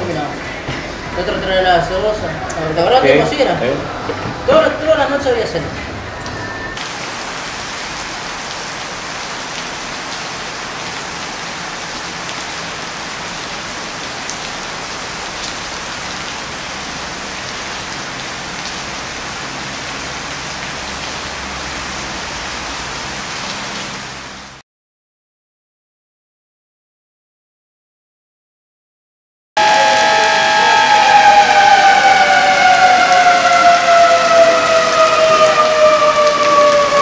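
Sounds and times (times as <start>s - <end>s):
heavy rain on wet street: 0.0s - 5.5s, 6.8s - 24.6s, 29.6s - 37.0s.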